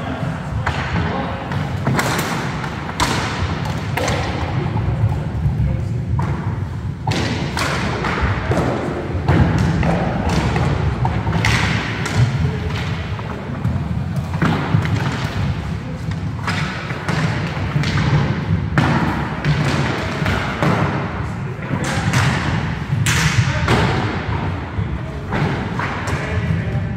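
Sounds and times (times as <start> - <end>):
sticks and ball clacking: 0.0 - 26.9.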